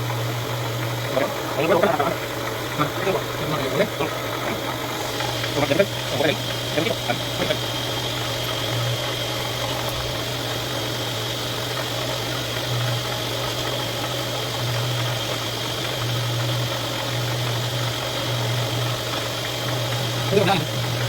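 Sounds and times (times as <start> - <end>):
motor running with whine: 0.0 - 21.0.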